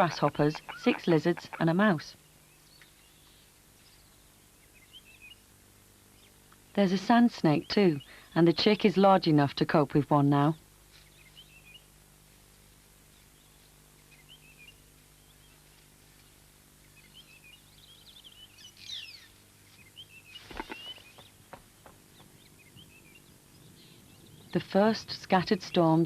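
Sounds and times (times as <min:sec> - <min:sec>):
faint birds chirping: 0:00.0 - 0:09.7, 0:10.4 - 0:26.0.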